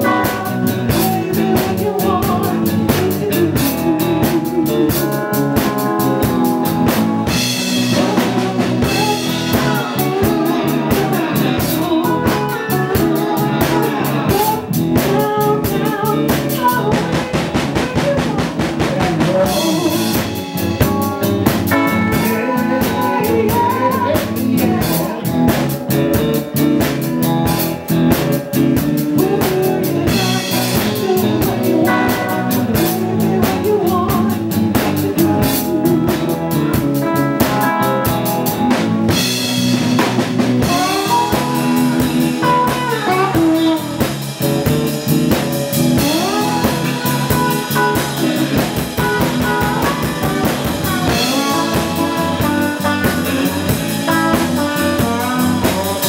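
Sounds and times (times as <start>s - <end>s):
drum kit: 0.0s - 56.0s
electric guitar: 0.0s - 56.0s
keyboard: 0.0s - 56.0s.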